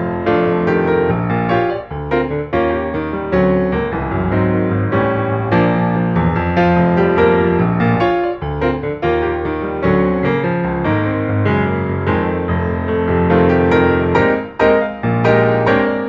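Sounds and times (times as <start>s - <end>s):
piano instrumental music: 0.0s - 16.0s.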